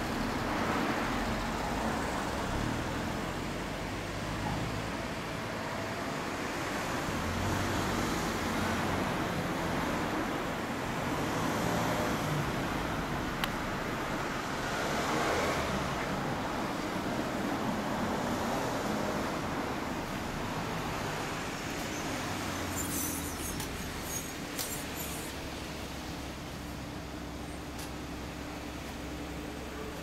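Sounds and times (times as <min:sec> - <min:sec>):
outdoor noise: 0:00.0 - 0:30.0.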